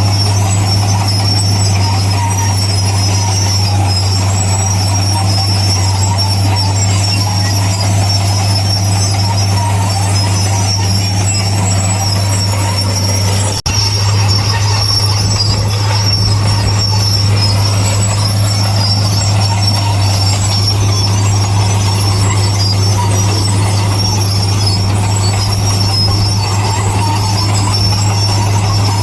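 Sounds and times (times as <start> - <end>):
diesel machinery drone: 0.0 - 29.0
high metallic squeal: 0.0 - 29.0.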